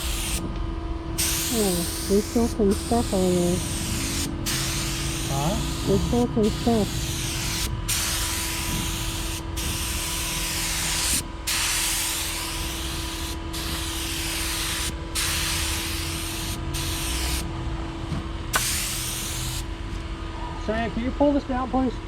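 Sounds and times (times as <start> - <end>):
paint spray gun hissing: 0.0 - 0.4, 1.2 - 17.4, 18.6 - 19.7.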